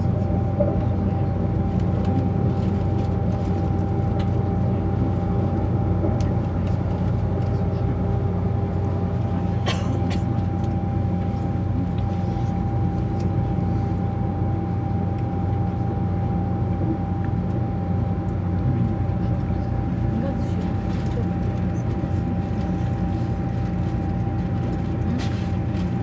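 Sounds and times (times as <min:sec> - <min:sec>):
constant high whine: 0:00.0 - 0:26.0
train low rumble: 0:00.0 - 0:26.0.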